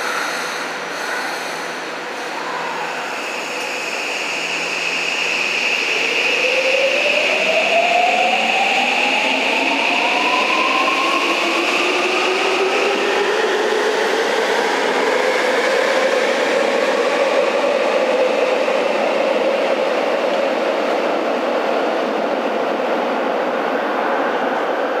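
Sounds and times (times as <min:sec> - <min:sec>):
subway train running noise: 0:00.0 - 0:25.0.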